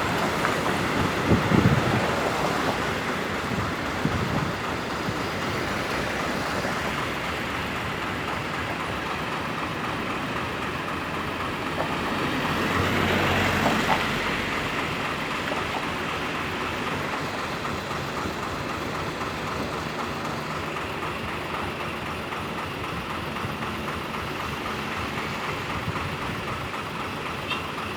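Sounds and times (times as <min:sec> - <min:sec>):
road traffic noise: 0:00.0 - 0:27.9.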